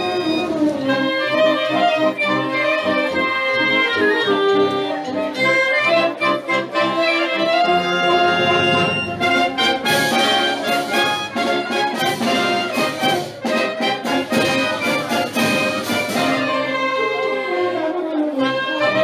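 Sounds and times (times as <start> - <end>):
marching wind band playing: 0.0 - 19.0.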